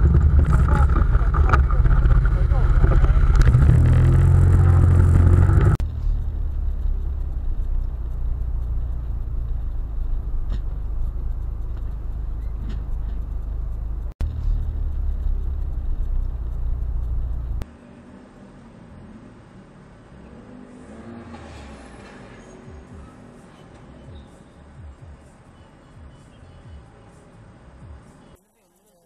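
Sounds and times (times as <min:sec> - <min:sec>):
car engine rumble: 0:00.0 - 0:28.4
road noise: 0:00.0 - 0:29.0.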